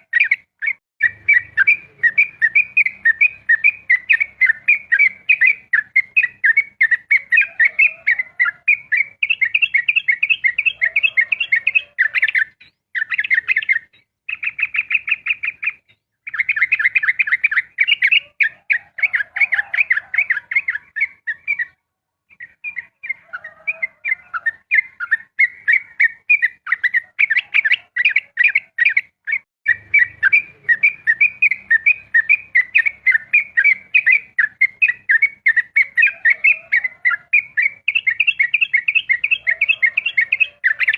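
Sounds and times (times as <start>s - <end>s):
bird singing chattering notes: 0.0s - 40.9s.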